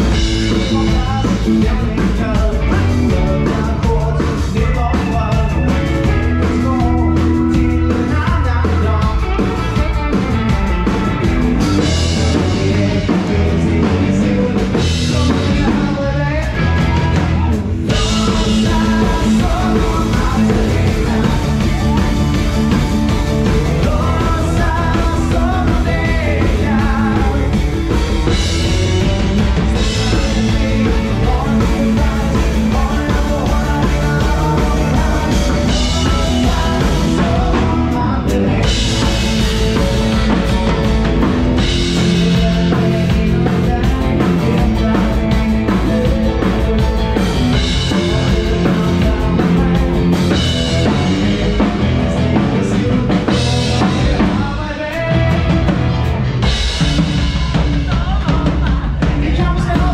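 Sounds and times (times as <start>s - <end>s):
drum kit steady beat: 0.0s - 59.9s
electric guitars: 0.0s - 59.9s.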